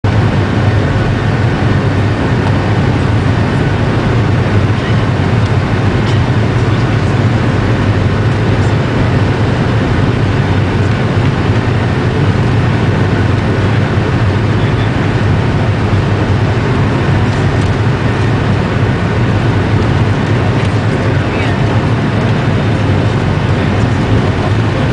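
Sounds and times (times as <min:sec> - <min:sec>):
jet engines rumbling in cabin: 0:00.0 - 0:24.9.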